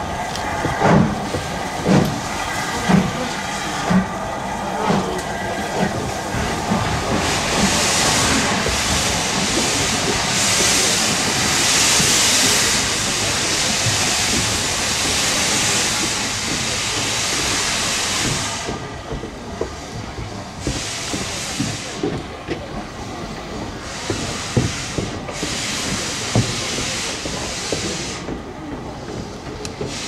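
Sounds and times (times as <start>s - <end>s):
steam locomotive hissing: 0.0s - 30.0s.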